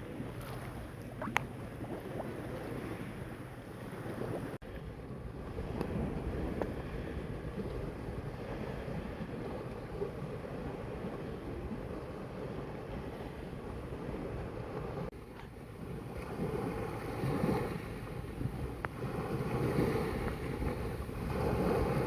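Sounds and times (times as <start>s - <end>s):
sea water lapping: 0.0s - 22.0s
wind rumbling on microphone: 0.0s - 22.0s.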